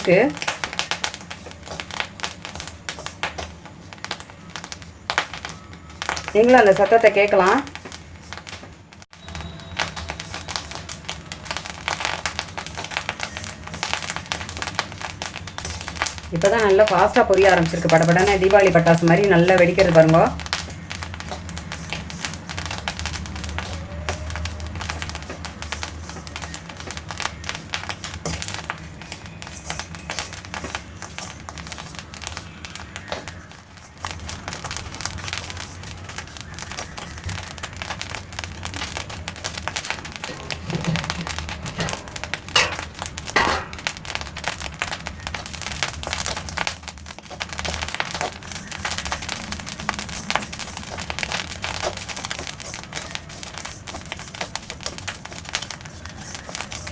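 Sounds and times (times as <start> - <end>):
seeds popping in a pan: 0.0 - 56.9.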